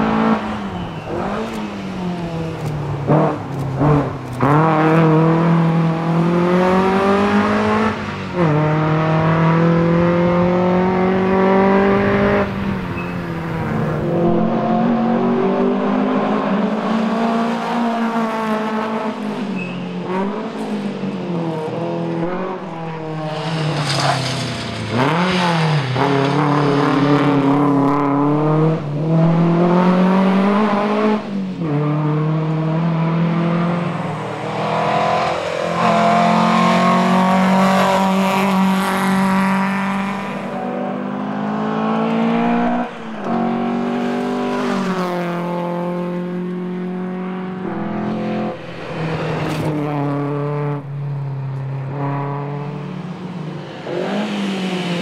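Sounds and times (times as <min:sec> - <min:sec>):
car engine driven hard: 0:00.0 - 0:55.0.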